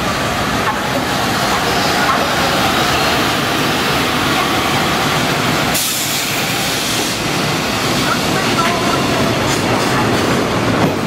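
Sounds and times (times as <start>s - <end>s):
freight train passing slowly: 0.0s - 11.0s
train wheels on rails: 0.0s - 11.0s.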